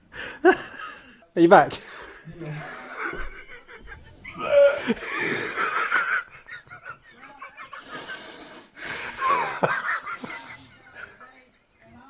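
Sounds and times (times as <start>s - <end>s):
wheezy laughter: 0.1s - 1.2s, 1.8s - 11.4s.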